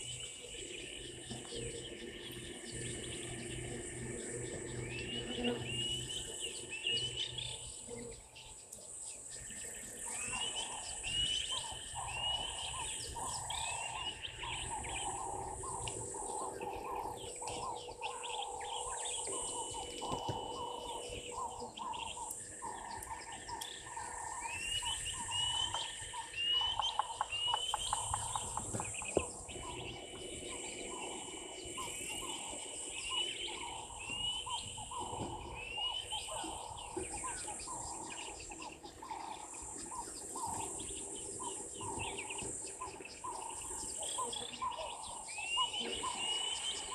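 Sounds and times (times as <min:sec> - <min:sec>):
bird chirping: 0:00.0 - 0:46.9
insect drone: 0:00.0 - 0:46.9.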